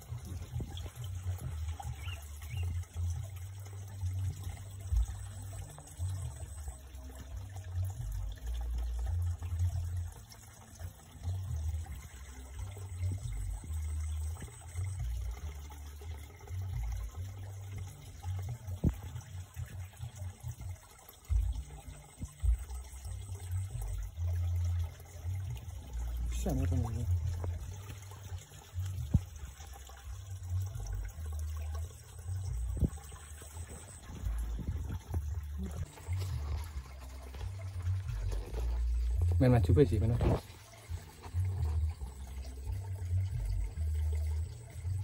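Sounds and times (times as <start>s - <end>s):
low rumble on microphone: 0.0s - 45.0s
stream water sloshing: 0.0s - 45.0s.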